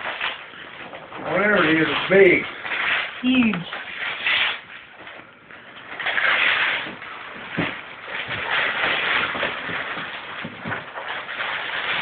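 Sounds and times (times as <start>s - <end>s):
wrapping paper tearing and rustling: 0.0s - 12.0s.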